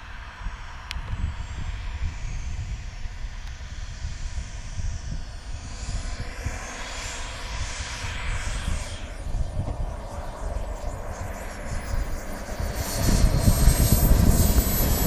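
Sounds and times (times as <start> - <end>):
jet turbine whine: 0.0 - 15.0
wind rumble on microphone: 0.0 - 15.0.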